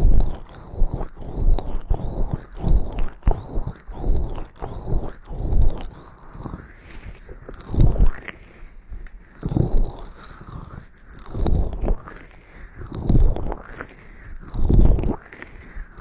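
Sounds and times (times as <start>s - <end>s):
rubbing and scraping on microphone: 0.0s - 16.0s.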